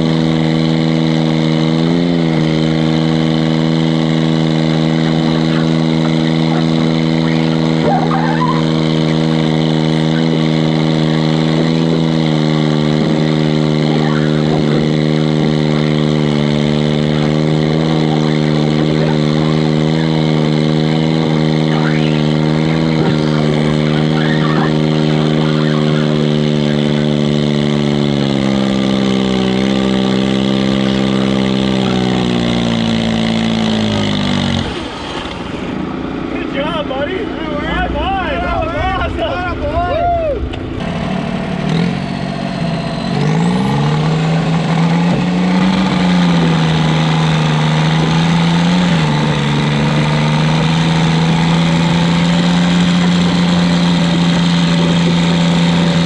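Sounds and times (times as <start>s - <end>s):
diesel tractor engine running hard: 0.0s - 56.0s.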